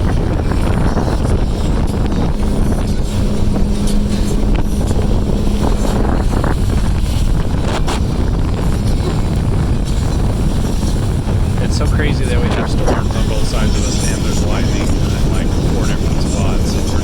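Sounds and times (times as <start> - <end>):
motorboat engine drone: 0.0 - 17.0
steady hum: 0.0 - 17.0
wind buffeting microphone: 0.0 - 17.0.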